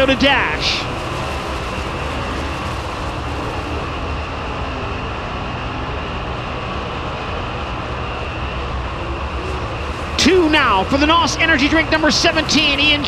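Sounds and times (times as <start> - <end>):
race car engine roaring: 0.0 - 13.0.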